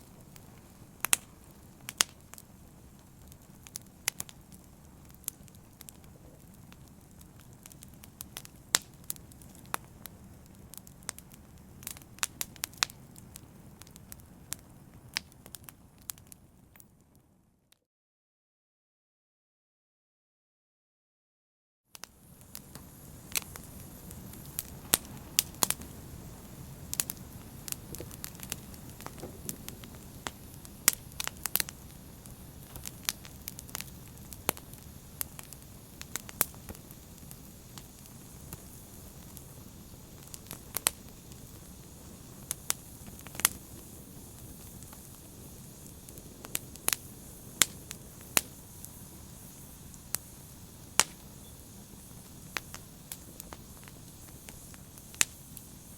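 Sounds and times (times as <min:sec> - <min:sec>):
open fire crackling and popping: 0:00.0 - 0:17.4, 0:21.9 - 0:55.9.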